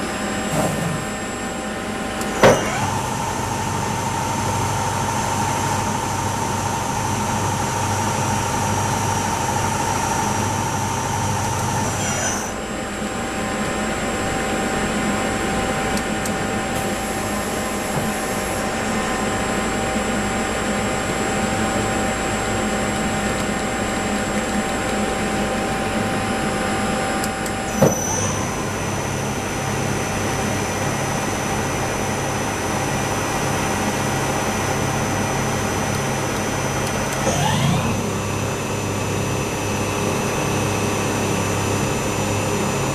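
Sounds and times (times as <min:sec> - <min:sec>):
lathe humming and whining: 0:00.0 - 0:42.9.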